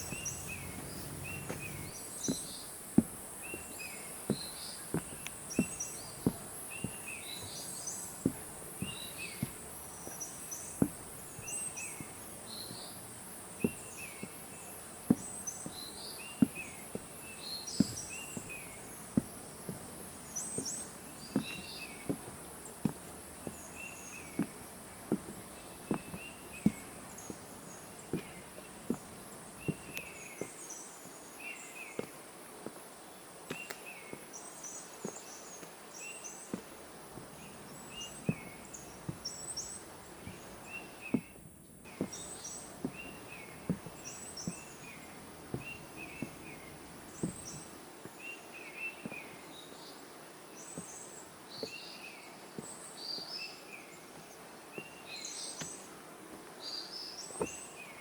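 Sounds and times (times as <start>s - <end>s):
birds chirping: 0.0s - 32.2s, 33.5s - 50.0s
footsteps on a forest path: 0.0s - 49.6s, 50.6s - 52.0s, 52.6s - 58.0s.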